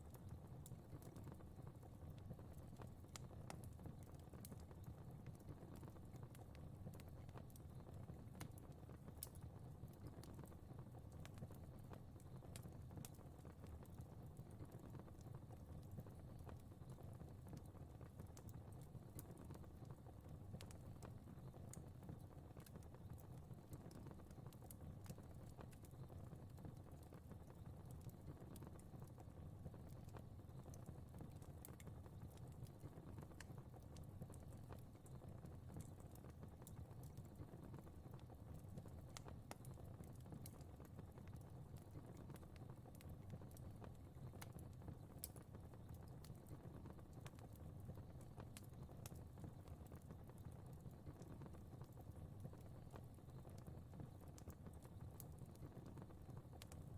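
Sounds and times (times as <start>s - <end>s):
fire popping and snapping: 0.0s - 56.9s
low rumble of flames: 0.0s - 56.9s.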